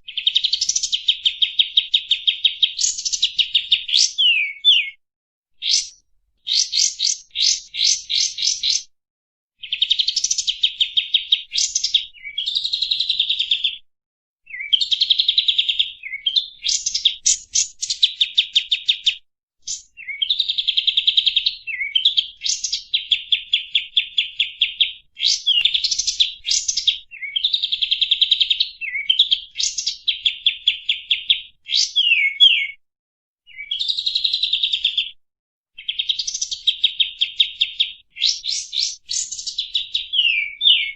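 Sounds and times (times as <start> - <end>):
songbird trills and whistles: 0.1 - 5.0, 5.6 - 8.9, 9.6 - 13.8, 14.4 - 32.8, 33.5 - 35.1, 35.8 - 40.9.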